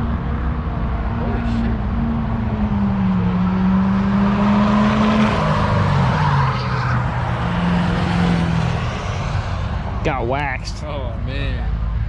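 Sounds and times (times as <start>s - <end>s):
racing engine at high revs: 0.0s - 11.8s.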